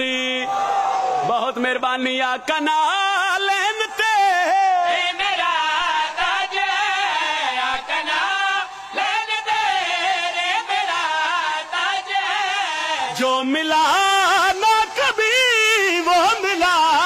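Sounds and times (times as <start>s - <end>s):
man singing: 0.0s - 0.6s, 1.2s - 17.0s.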